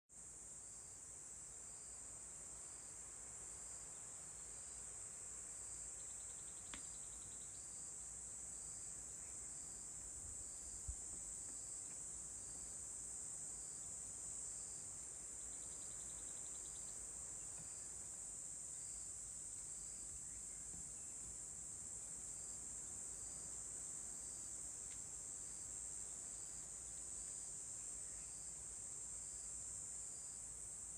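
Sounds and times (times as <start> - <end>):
insect chorus: 0.2 - 30.9.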